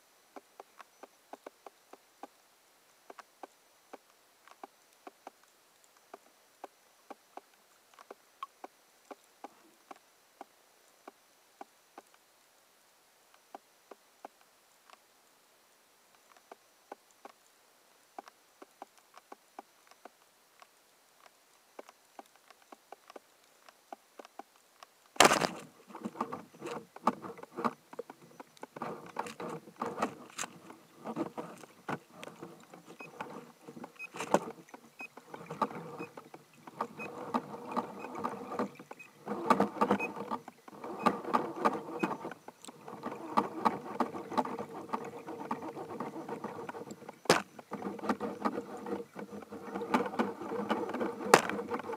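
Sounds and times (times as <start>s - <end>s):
faint scattered clicks: 0.3s - 2.4s, 3.0s - 12.3s, 13.3s - 15.1s, 16.1s - 51.9s
rushing water: 1.4s - 51.9s.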